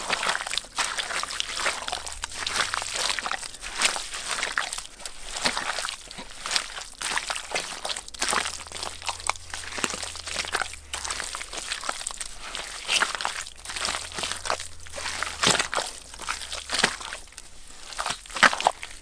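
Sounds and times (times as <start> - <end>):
wet mud squelching and slapping: 0.0 - 19.0.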